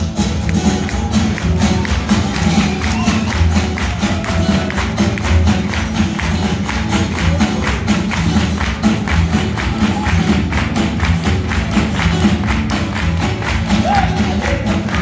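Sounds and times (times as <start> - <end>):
drum kit beat: 0.0 - 15.0
live rockabilly band: 0.0 - 15.0
strummed acoustic guitar: 0.0 - 15.0
upright double bass: 0.0 - 15.0.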